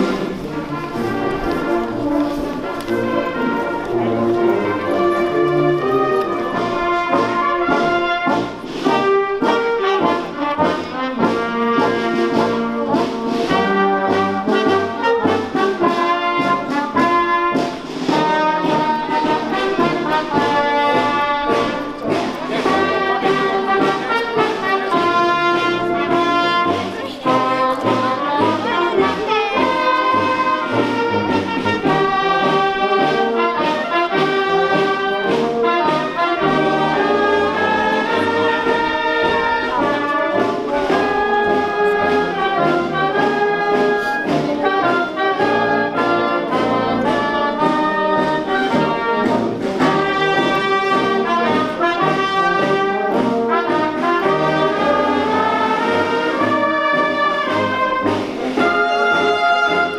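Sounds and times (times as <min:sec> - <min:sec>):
brass band playing: 0:00.0 - 0:59.9.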